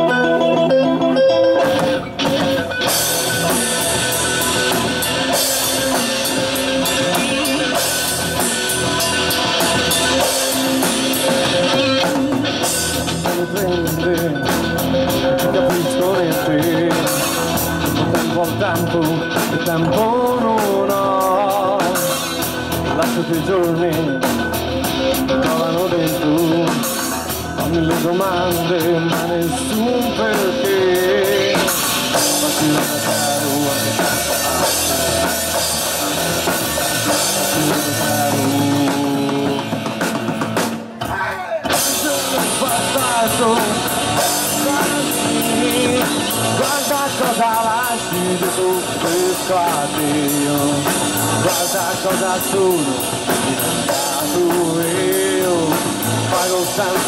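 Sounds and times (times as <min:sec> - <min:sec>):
live rock band playing: 0:00.0 - 0:57.0
person singing: 0:04.8 - 0:57.0.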